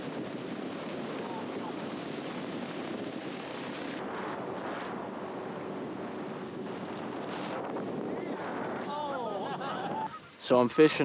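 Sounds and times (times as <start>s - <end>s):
water noise: 0.0s - 10.6s
wind: 0.0s - 11.0s.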